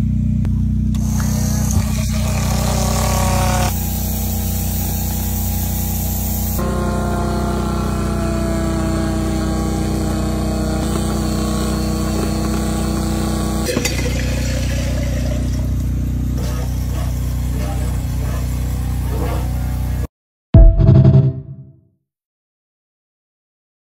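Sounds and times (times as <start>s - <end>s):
fuel pump motor hum: 0.0s - 20.1s.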